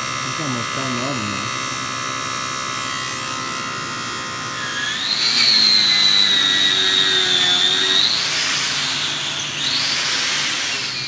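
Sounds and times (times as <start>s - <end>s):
power tool whine: 0.0s - 11.0s
welding electric buzz: 0.0s - 11.0s.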